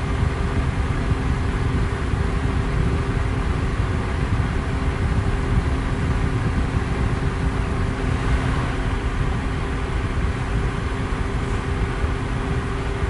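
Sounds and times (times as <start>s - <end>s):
electric fan air rushing: 0.0s - 13.0s
faint motor hum: 0.0s - 13.0s.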